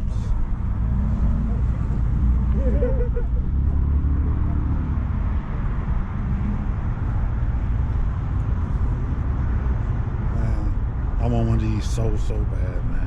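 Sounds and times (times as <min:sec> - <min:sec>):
outdoor vehicle noise: 0:00.0 - 0:13.0.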